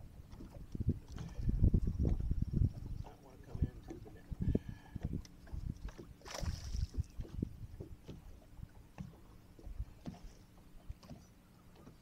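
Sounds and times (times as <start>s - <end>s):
low knocks against boat: 0.0s - 12.0s
water splashing: 0.0s - 12.0s.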